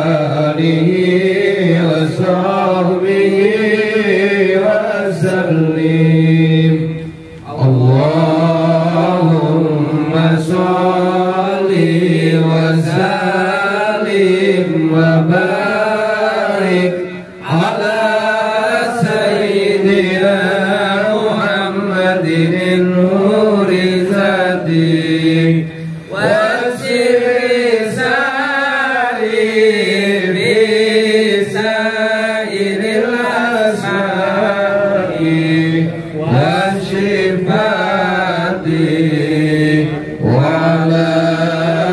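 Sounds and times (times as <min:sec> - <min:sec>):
man chanting: 0:00.0 - 0:41.9.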